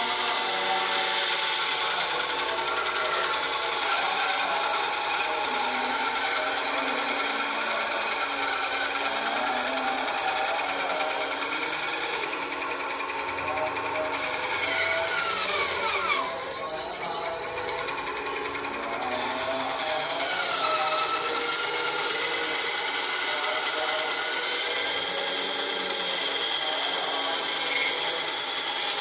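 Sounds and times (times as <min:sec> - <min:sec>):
bandsaw cutting wood: 0:00.0 - 0:29.0
motor hum: 0:00.0 - 0:29.0.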